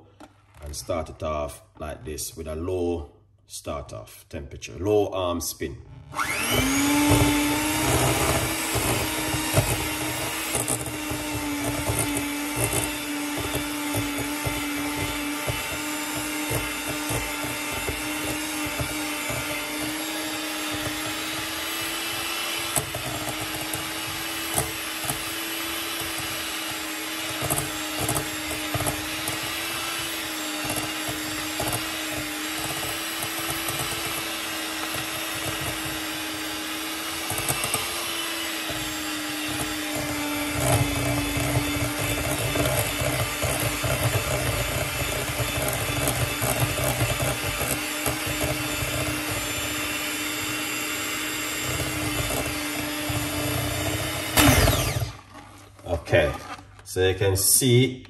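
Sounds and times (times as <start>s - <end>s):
electric hand mixer running: 5.9s - 55.4s.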